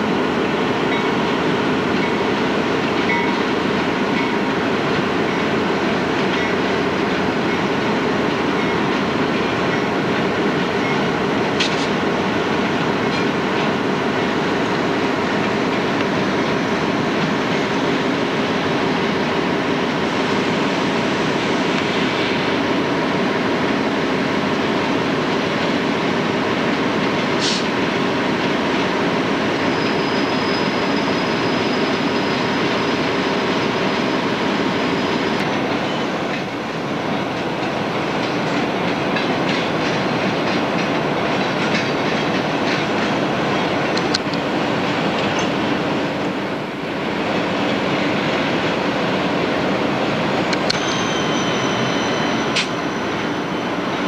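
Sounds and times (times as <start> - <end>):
locomotive hum and rumble: 0.0 - 54.0.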